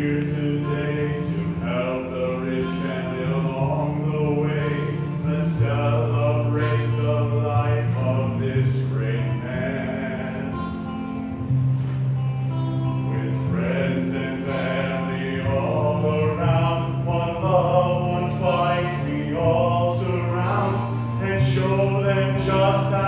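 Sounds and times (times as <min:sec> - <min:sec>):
men singing in harmony: 0:00.0 - 0:10.8, 0:13.1 - 0:23.0.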